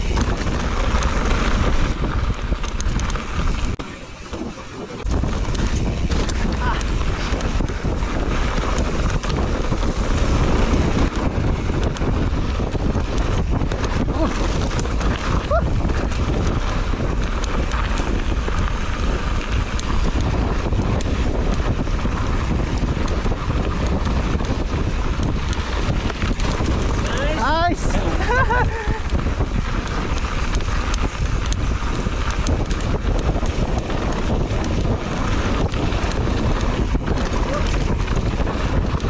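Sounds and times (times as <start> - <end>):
bike frame rattling: 0.0 - 39.0
bike tyres rumbling on dirt: 0.0 - 39.0
wind buffeting microphone: 0.0 - 39.0.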